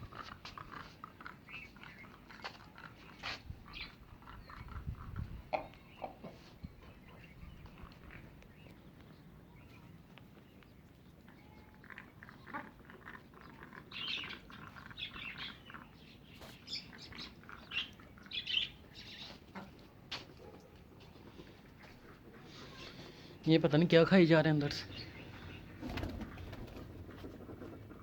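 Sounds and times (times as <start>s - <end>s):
caged birds chirping: 0.0s - 28.0s.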